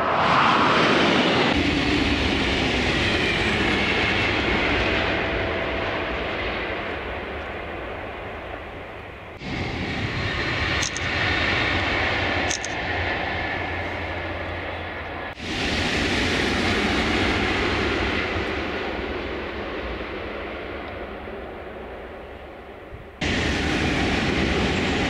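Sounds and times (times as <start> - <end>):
high-speed trains passing: 0.0 - 25.0.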